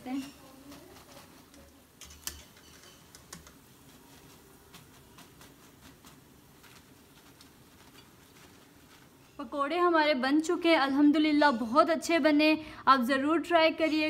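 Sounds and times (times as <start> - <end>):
hot frying oil crackling: 0.0 - 12.4.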